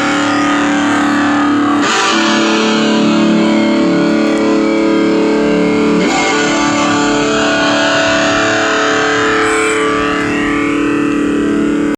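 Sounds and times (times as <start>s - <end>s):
distorted electric guitar chords: 0.0s - 11.9s.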